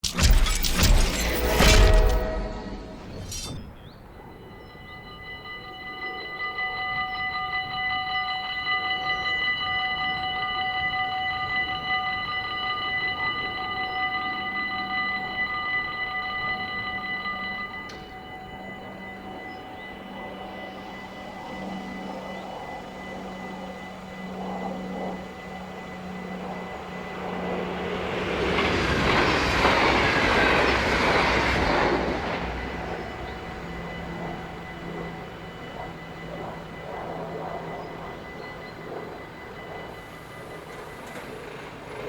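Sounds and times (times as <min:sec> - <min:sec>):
train passing: 0:00.8 - 0:42.0.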